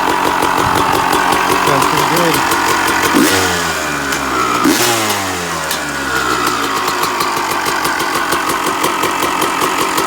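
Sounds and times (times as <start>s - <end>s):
two-stroke engine idling: 0.0s - 10.0s.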